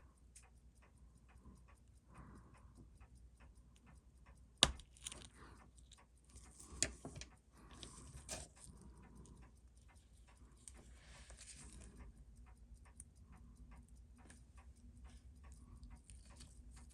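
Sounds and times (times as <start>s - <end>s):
rapid watch ticking: 0.0s - 16.9s.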